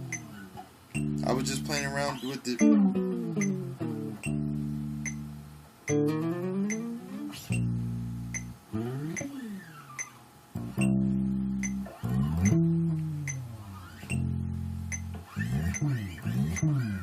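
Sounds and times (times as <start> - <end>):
electric bass guitar: 0.0 - 17.0.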